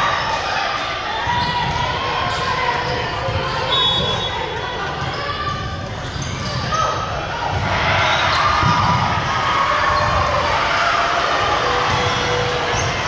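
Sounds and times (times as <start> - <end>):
crowd voices in a hall: 0.0 - 13.0.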